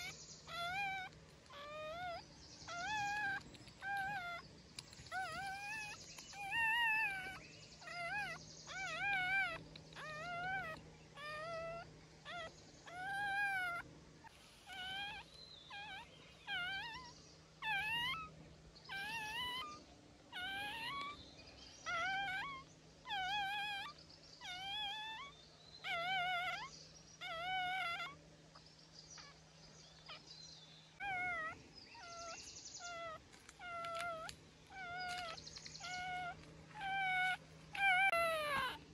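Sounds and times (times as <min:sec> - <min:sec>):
puppy crying: 0:00.0 - 0:21.2, 0:21.8 - 0:28.6, 0:29.2 - 0:30.3, 0:30.9 - 0:38.9.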